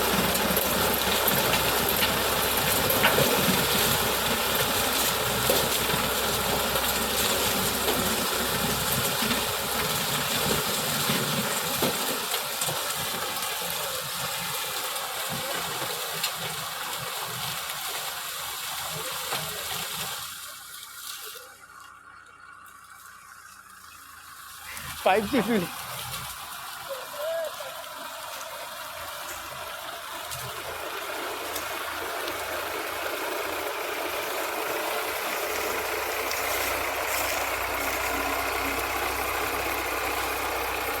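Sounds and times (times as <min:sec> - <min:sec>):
harvester engine and machinery: 0:00.0 - 0:41.0.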